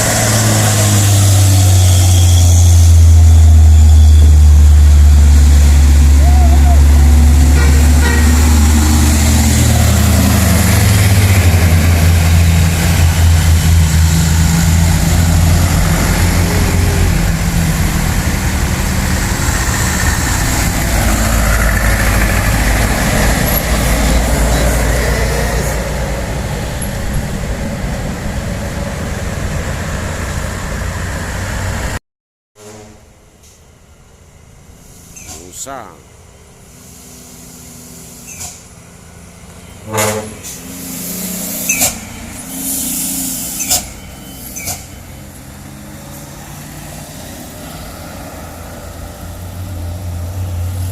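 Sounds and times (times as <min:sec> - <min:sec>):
heavy truck engine drone: 0:00.0 - 0:32.0, 0:32.6 - 0:50.9
road noise: 0:00.0 - 0:32.0, 0:32.6 - 0:50.9.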